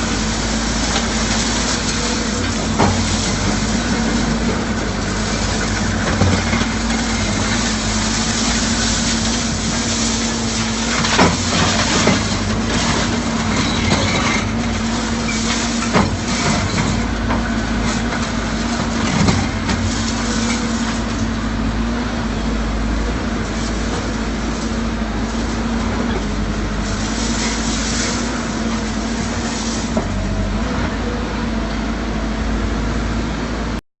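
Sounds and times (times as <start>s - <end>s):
diesel engine humming: 0.0s - 33.8s.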